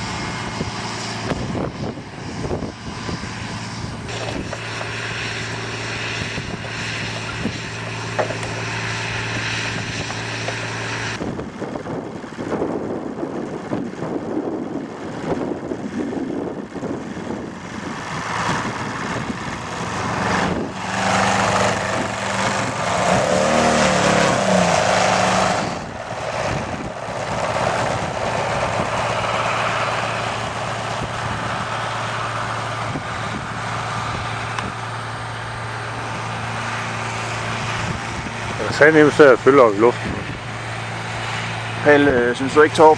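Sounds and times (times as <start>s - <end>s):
model airplane motor and propeller: 0.0s - 42.9s.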